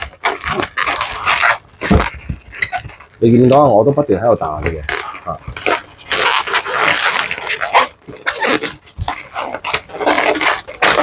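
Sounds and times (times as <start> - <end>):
balloons squeaking and rubbing: 0.0 - 11.0.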